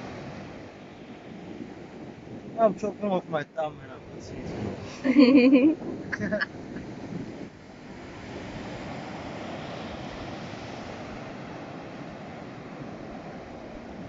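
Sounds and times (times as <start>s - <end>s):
ocean surf washing ashore: 0.0s - 14.0s
wind on microphone: 0.0s - 14.0s.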